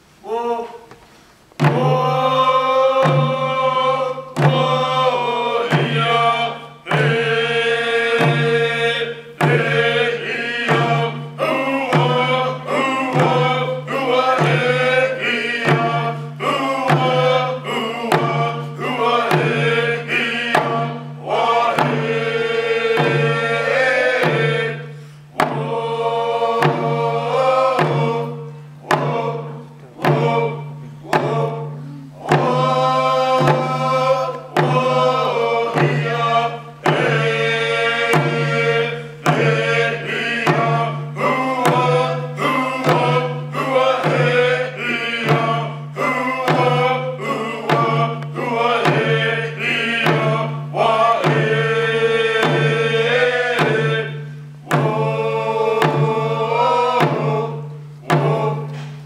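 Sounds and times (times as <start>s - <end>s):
group singing in unison: 1.6s - 59.0s
hand drum beat: 1.6s - 59.0s.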